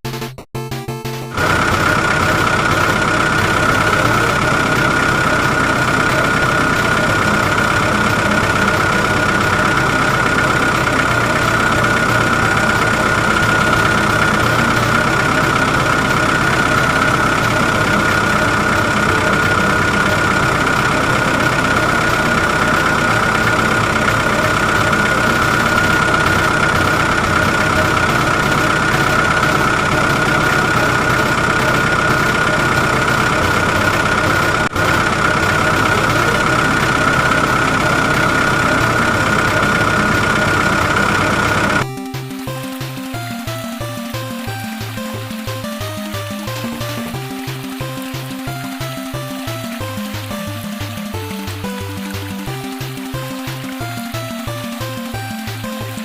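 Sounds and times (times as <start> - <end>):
construction machine engine running: 1.3 - 56.0
high whine: 1.3 - 56.0.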